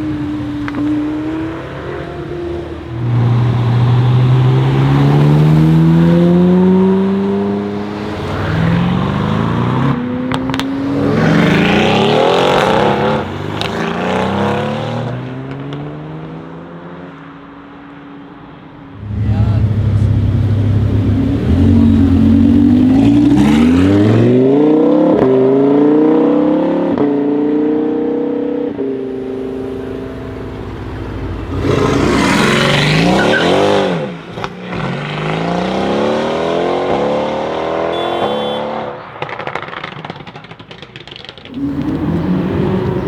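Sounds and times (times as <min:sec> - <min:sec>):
sports car accelerating hard: 0:00.0 - 0:18.0, 0:18.9 - 0:40.4, 0:41.2 - 0:43.0
car passing close: 0:00.0 - 0:43.0.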